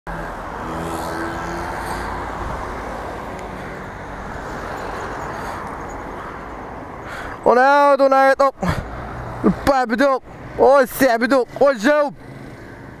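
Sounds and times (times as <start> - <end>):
street traffic passing: 0.1 - 13.0.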